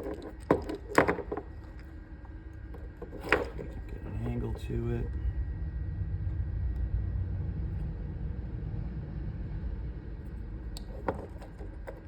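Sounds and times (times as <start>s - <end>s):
low rumble: 1.2s - 12.0s.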